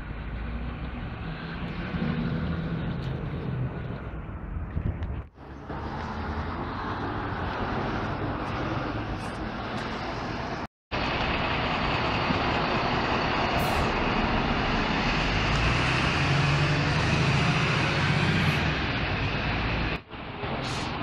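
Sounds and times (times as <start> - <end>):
bus engine low hum: 0.0 - 21.0
buses and traffic running: 0.0 - 21.0.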